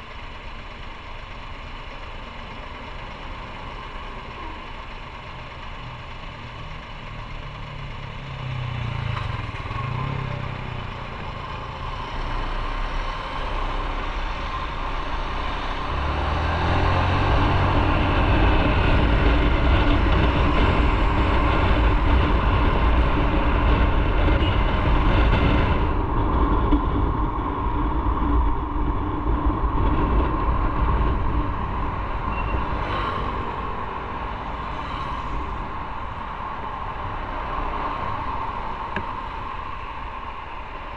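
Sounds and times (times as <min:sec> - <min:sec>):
motorcycle engine: 0:00.0 - 0:40.9
road and wind noise: 0:00.0 - 0:40.9.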